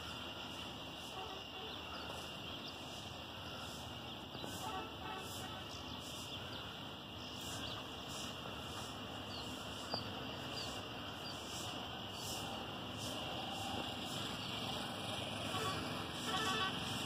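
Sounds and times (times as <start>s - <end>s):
faint chirps: 0.0s - 17.0s
pulsing high-pitched hiss: 0.0s - 17.0s.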